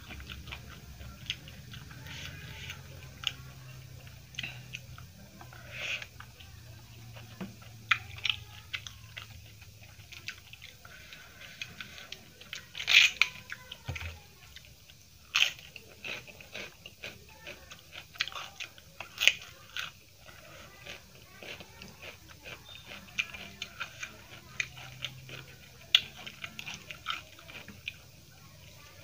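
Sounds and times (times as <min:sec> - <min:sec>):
chewing: 0:00.0 - 0:29.0.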